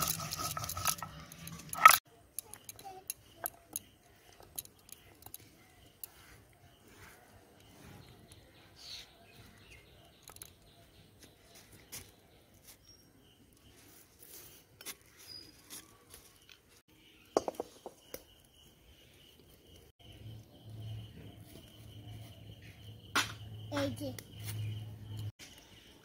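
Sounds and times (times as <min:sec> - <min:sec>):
bird chirps: 0:01.2 - 0:26.0.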